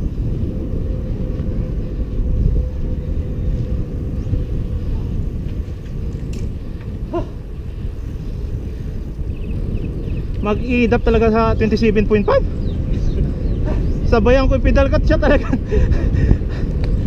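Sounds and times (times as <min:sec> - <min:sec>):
tyre noise on concrete road: 0:00.0 - 0:17.0
wind buffeting microphone: 0:00.0 - 0:17.0.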